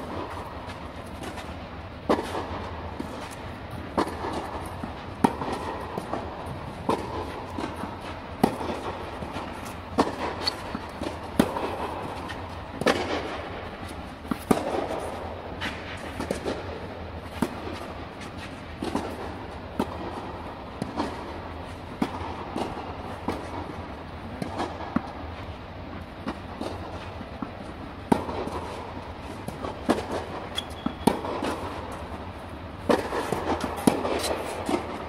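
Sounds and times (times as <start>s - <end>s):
racket striking tennis ball: 0.0s - 25.2s, 26.2s - 32.2s, 32.8s - 35.0s
tennis ball bouncing: 0.0s - 25.2s, 26.2s - 35.0s.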